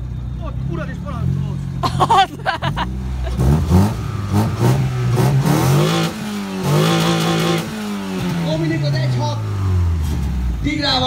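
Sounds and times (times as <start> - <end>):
car engine revving: 0.1 - 11.0.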